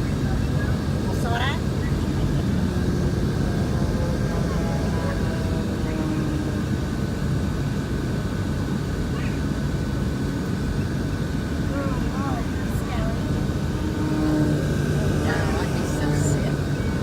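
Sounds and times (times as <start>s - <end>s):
faint voices: 0.0s - 7.0s, 9.0s - 17.0s
low engine rumble: 0.0s - 17.0s.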